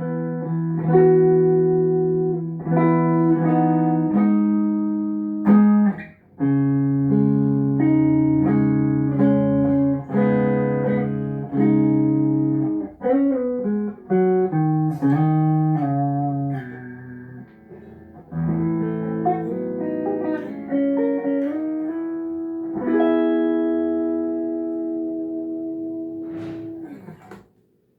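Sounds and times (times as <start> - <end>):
guitar plucking chords and notes: 0.0 - 27.6.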